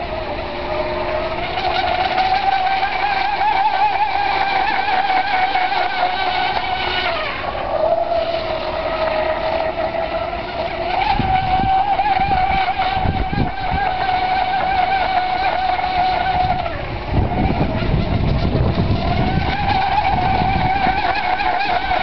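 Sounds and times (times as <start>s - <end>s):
electric motor high whine: 0.0s - 22.0s.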